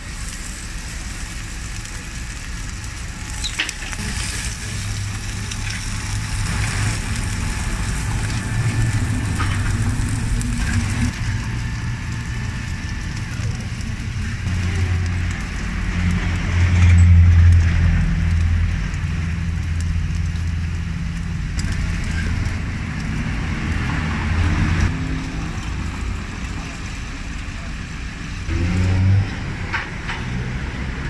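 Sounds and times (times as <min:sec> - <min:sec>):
meat sizzling in oil: 0:00.0 - 0:28.8
vehicle engine humming: 0:00.0 - 0:31.0.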